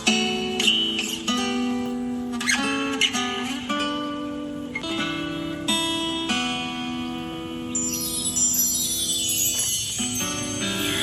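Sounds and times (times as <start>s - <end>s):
acoustic guitar plucked notes: 0.0s - 11.0s.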